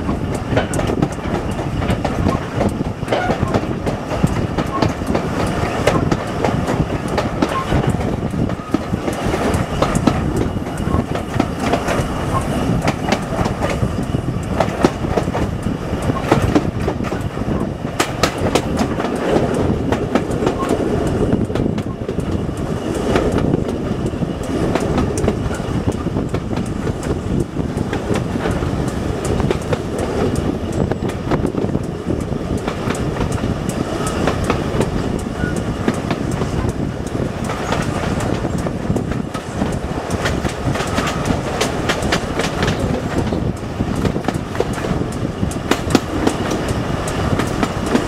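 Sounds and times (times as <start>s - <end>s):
train carriages rumbling on track: 0.0s - 48.0s
wheels clacking over rail joints: 0.0s - 48.0s.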